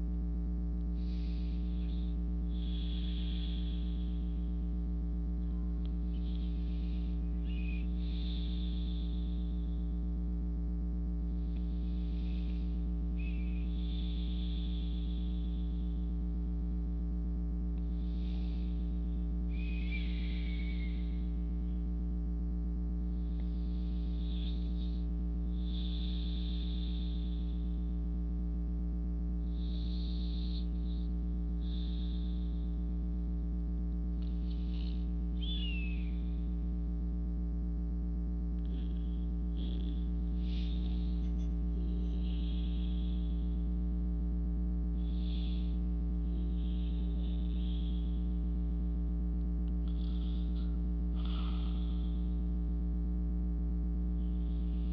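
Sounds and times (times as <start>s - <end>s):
low electrical hum: 0.0s - 54.9s
soft breaths: 0.8s - 28.4s, 29.2s - 37.5s, 38.4s - 49.0s, 49.6s - 52.6s.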